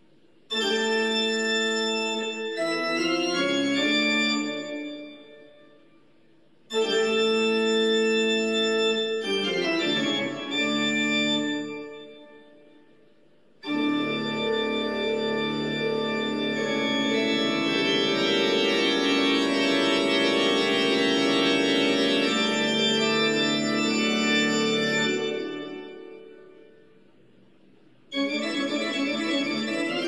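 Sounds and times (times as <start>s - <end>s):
organ chord: 0.5s - 5.6s, 6.7s - 12.8s, 13.6s - 26.9s, 28.1s - 30.0s.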